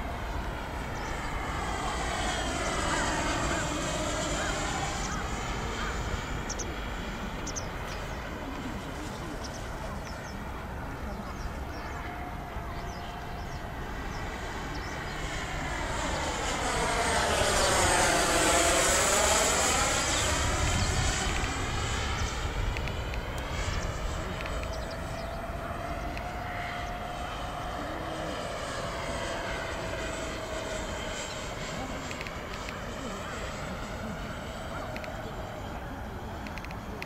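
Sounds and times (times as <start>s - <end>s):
jet fighter flying past: 0.0s - 37.0s.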